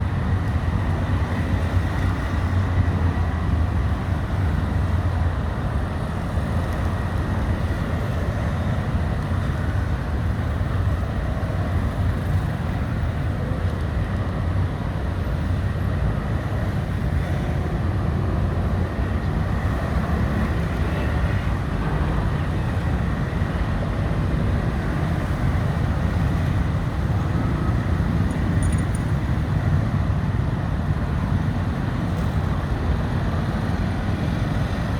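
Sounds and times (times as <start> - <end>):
low traffic rumble: 0.0 - 34.9.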